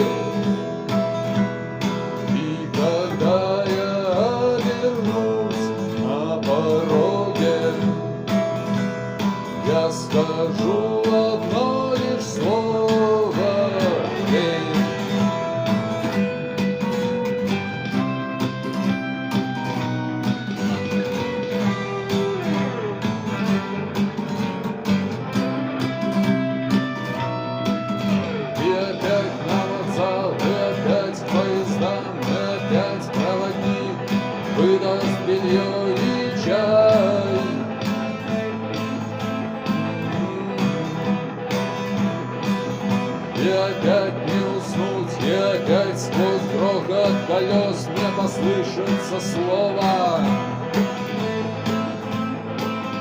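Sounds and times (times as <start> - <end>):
rock song on guitar: 0.0 - 53.0.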